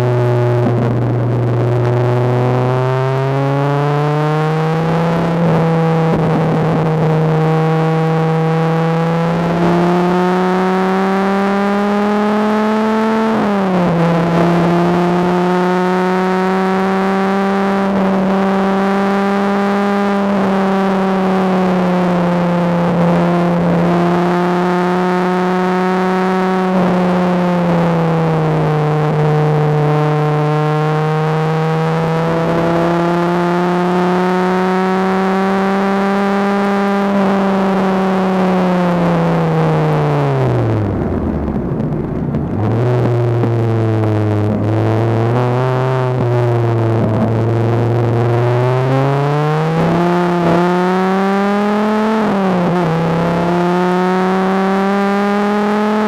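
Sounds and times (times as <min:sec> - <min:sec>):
sports car engine at speed: 0:00.0 - 0:56.0.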